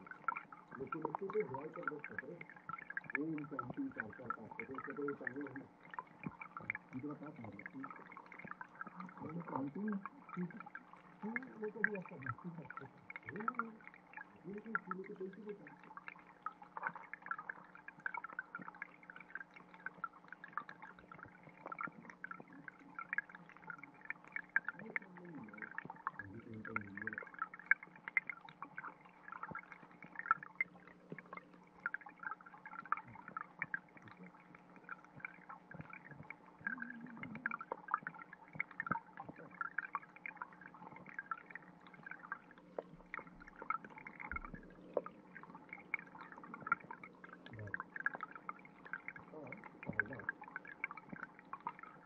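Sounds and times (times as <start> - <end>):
faint steady hum: 0.0 - 52.0
low water gurgles: 0.0 - 52.0
underwater clicks and pops: 0.0 - 52.0.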